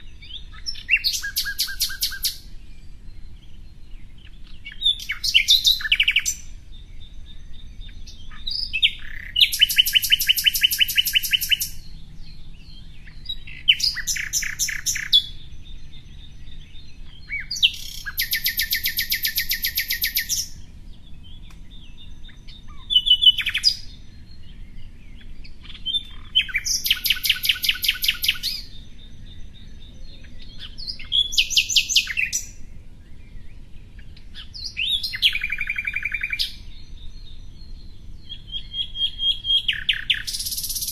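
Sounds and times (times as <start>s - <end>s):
songbird trilling: 0.0s - 40.9s.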